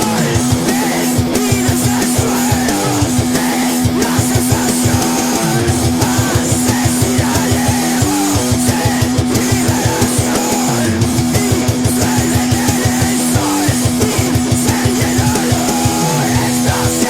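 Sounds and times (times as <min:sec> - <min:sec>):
electric guitar and bass: 0:00.0 - 0:17.0
fast drumming: 0:00.0 - 0:17.0.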